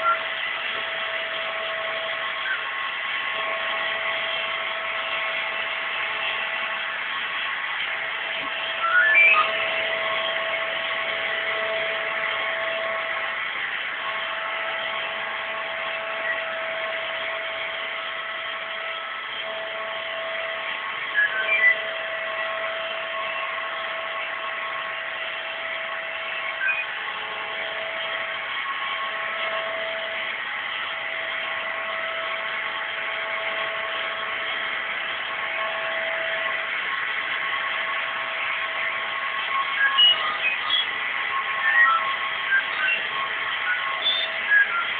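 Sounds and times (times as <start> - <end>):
robot vacuum cleaner running: 0.0 - 44.9.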